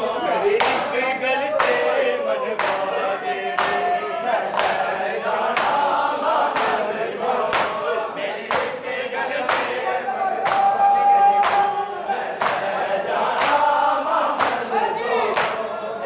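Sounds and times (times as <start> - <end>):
men chanting a lament in chorus: 0.0 - 16.0.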